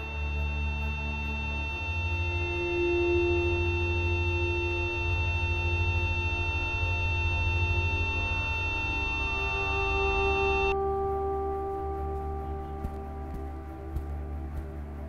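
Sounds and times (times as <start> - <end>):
ambient drone music: 0.0 - 15.0
low pulsing hum: 0.0 - 15.0.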